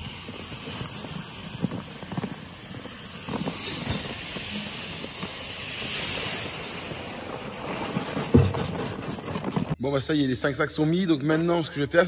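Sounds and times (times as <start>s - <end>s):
seeds pouring with hissing rush: 0.0s - 9.8s.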